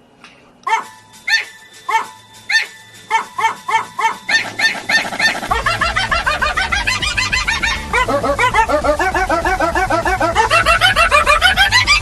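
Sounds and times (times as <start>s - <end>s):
dog barks in a tune: 0.6s - 12.0s
steady held tone: 0.9s - 11.8s.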